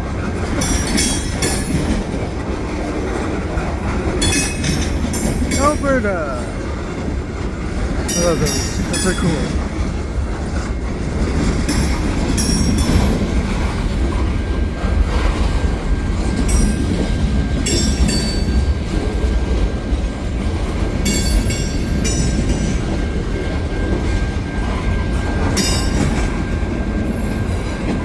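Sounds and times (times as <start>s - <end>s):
train cars rumbling past: 0.0s - 28.0s.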